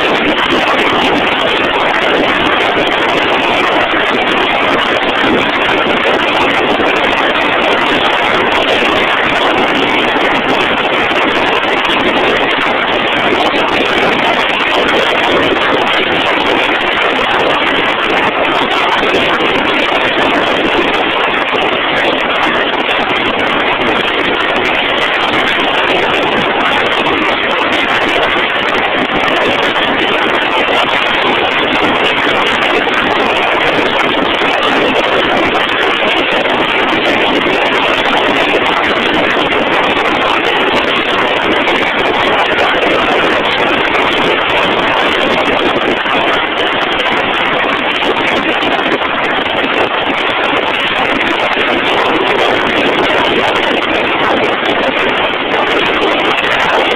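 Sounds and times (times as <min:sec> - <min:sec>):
loud machinery noise: 0:00.0 - 0:56.9.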